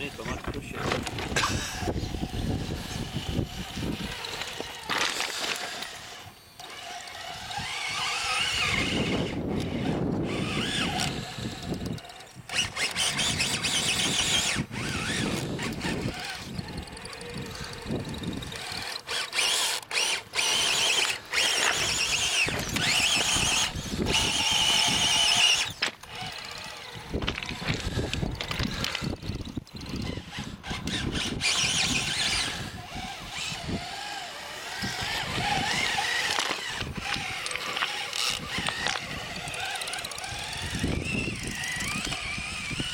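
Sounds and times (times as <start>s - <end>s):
electric motor and gearbox whining: 0.0s - 42.9s.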